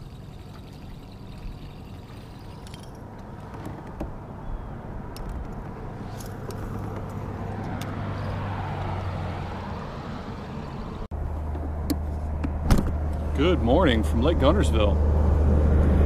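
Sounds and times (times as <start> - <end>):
road noise: 0.0 - 16.0
vehicle engine hum: 0.0 - 16.0.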